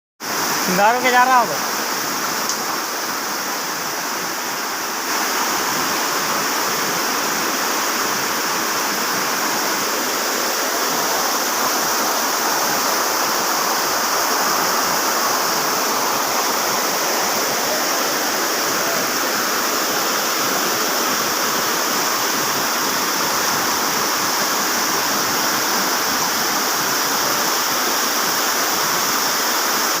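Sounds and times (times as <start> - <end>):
floodwater rushing: 0.2 - 30.0.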